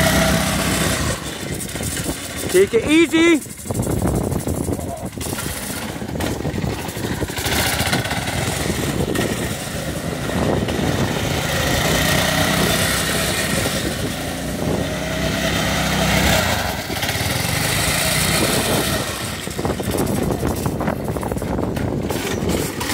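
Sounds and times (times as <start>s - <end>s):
small buggy engine revving: 0.0s - 22.9s.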